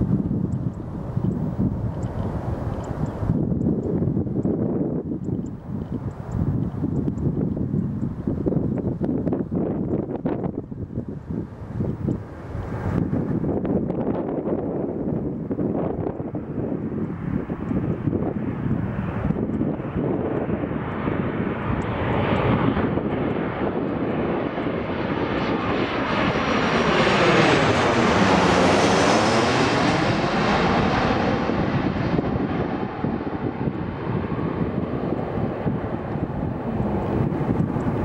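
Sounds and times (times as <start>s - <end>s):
jet airliner roar overhead: 0.0s - 38.0s.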